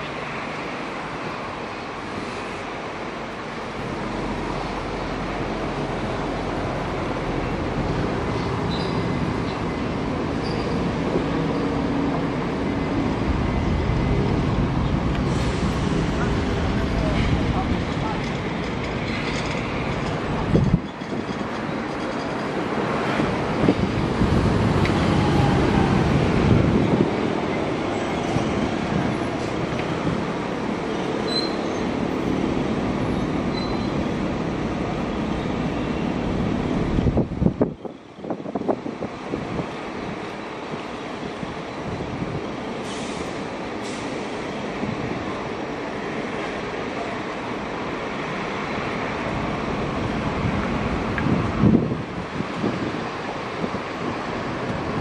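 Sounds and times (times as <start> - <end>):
faint locomotive engine hum: 0.0 - 55.0
train rumbling: 0.0 - 55.0.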